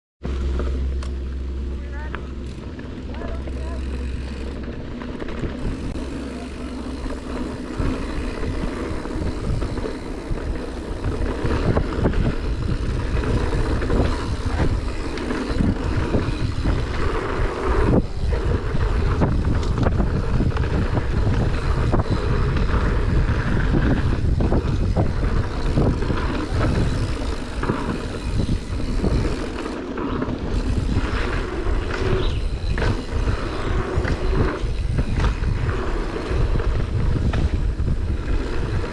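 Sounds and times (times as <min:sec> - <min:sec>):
bike tyres rumbling on dirt: 0:00.2 - 0:38.9
bike knocks and rattles: 0:02.4 - 0:38.9
wind on microphone: 0:05.2 - 0:38.9.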